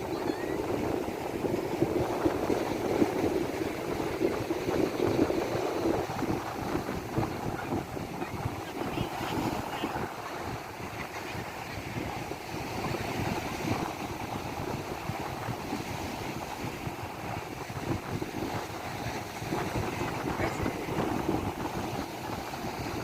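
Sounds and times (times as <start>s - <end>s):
sea surf washing onto shore: 0.0s - 23.0s
wind buffeting microphone: 0.0s - 23.0s.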